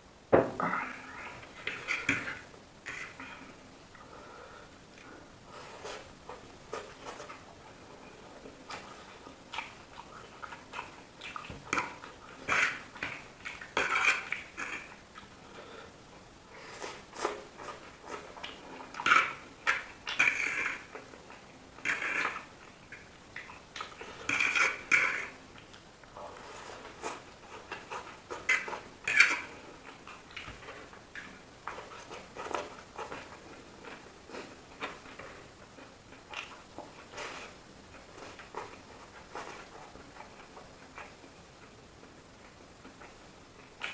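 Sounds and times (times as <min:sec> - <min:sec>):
person chewing and smacking food: 0:04.9 - 0:15.6, 0:16.2 - 0:43.9.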